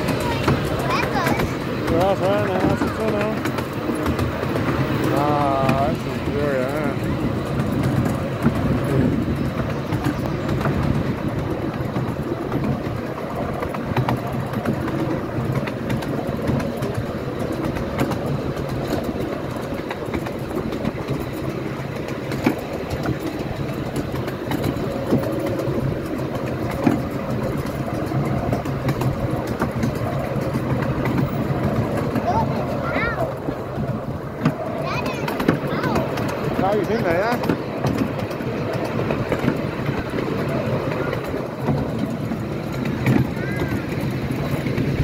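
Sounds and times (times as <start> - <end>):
track clicks and knocks: 0.0 - 45.0
train wheels rumbling on rail: 0.0 - 45.0.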